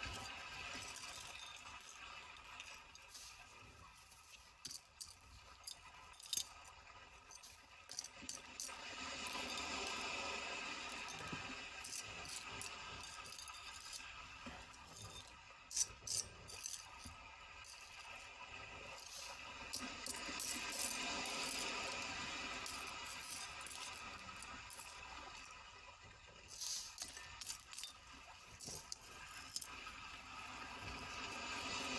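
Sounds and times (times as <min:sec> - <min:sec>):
small hard objects clinking: 0:00.0 - 0:18.3, 0:18.9 - 0:25.6, 0:26.5 - 0:31.9.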